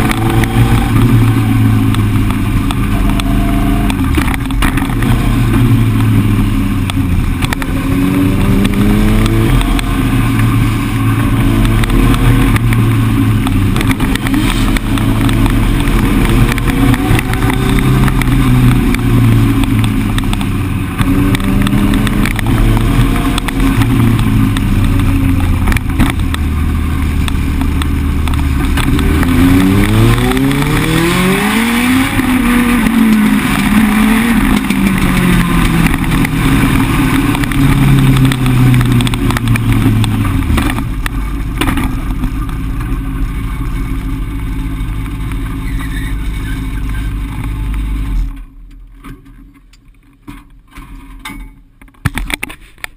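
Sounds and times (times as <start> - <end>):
motorcycle engine revving: 0.0 - 48.3.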